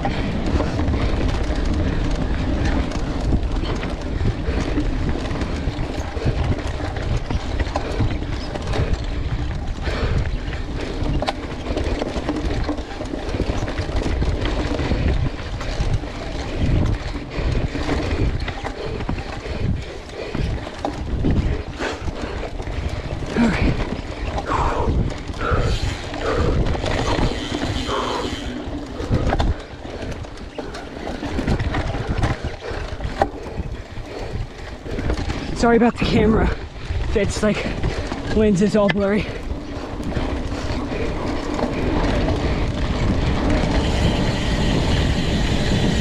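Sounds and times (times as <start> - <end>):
bike knocking and clattering: 0.0 - 46.0
tyres rumbling on dirt: 0.0 - 46.0
wind buffeting microphone: 0.0 - 46.0.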